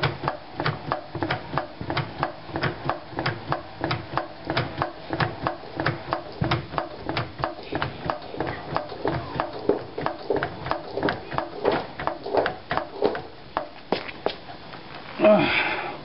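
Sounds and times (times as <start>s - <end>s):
floor jack pump clicking: 0.0s - 14.4s.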